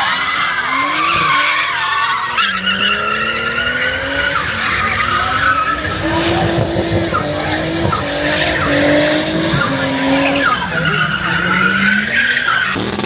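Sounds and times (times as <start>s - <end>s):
car engine revving: 0.0s - 13.0s
tires squealing: 0.0s - 13.0s.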